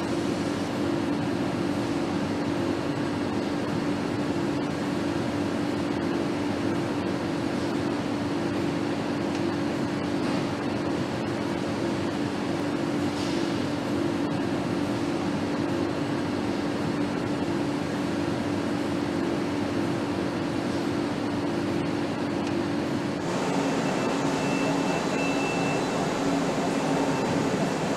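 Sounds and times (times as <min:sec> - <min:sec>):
factory machinery hum: 0:00.0 - 0:27.9
ventilation hiss: 0:00.0 - 0:27.9.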